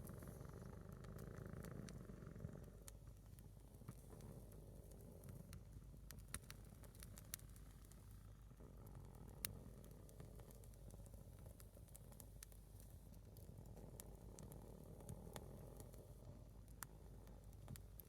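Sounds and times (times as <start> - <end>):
low fire rumble: 0.0 - 18.0
log crackling and popping: 1.1 - 8.2, 8.9 - 18.0.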